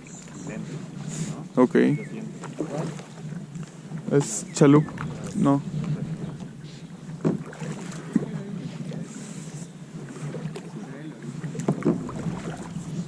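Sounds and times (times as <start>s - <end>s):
paddles splashing in water: 0.0s - 13.0s.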